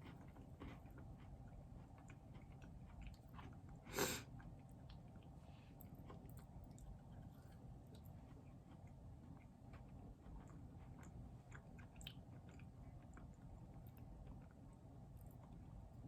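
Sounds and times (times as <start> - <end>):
chewing cookie: 0.0 - 16.0.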